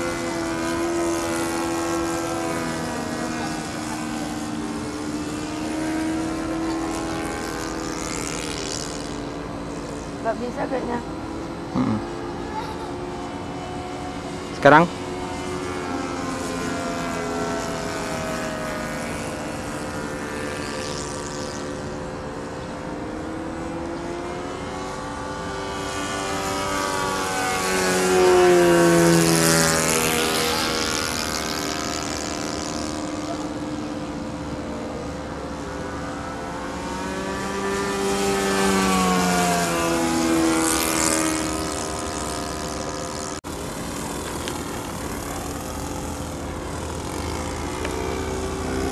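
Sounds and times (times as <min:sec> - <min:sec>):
model plane engine flying overhead: 0:00.0 - 0:48.9.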